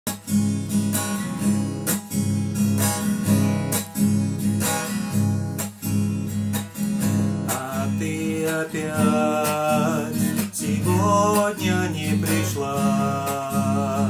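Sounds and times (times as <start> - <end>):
acoustic guitar strumming: 0.1 - 14.0.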